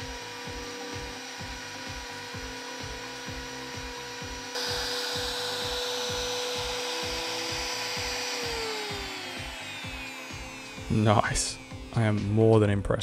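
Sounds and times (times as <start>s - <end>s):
background music with beat: 0.0s - 13.0s
router spindle whining: 0.0s - 13.0s.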